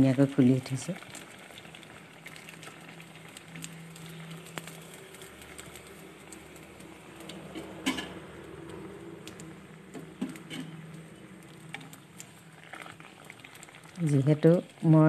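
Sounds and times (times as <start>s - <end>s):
fritters deep-frying in oil: 0.0s - 15.0s.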